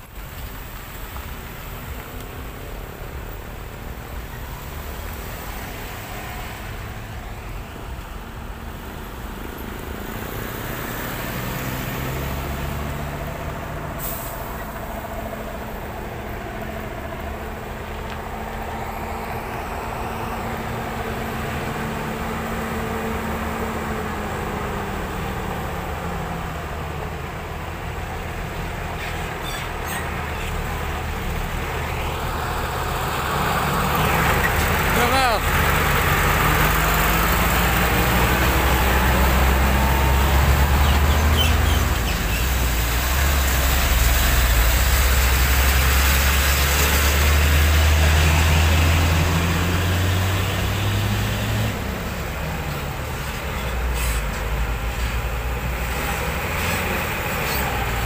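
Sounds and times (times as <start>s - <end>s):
truck engine running: 0.0s - 58.0s
tyre and road noise: 0.0s - 58.0s.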